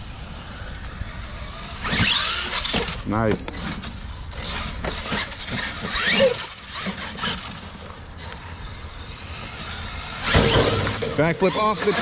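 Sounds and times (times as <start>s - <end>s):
rc truck motor whining: 0.0s - 12.0s.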